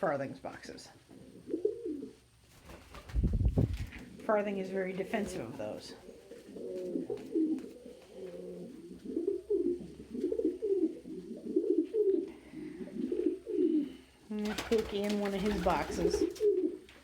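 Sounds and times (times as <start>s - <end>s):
pigeons cooing: 1.1s - 17.0s.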